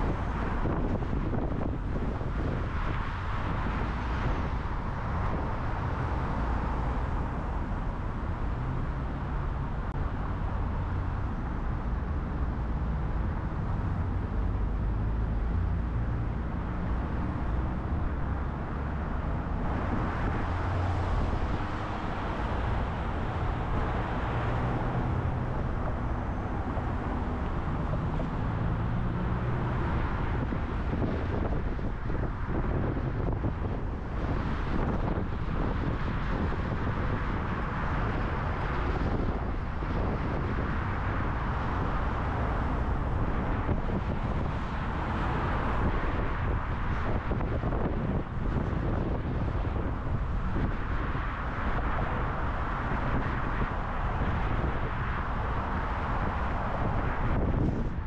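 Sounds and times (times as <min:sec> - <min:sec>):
low engine hum: 0:00.0 - 0:58.0
tyre and road roar: 0:00.0 - 0:58.0
wind noise: 0:00.0 - 0:58.0.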